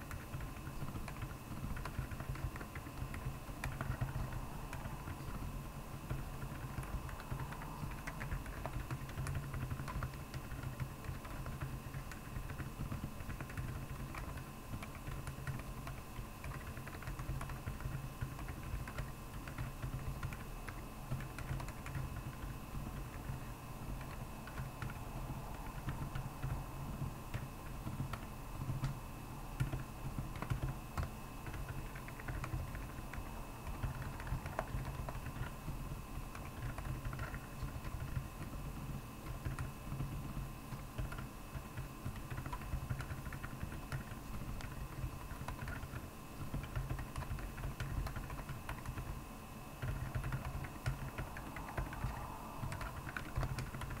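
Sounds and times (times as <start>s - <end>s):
fast keyboard typing: 0.0s - 29.0s, 29.6s - 49.2s, 49.8s - 54.0s
faint steady whine: 0.0s - 54.0s.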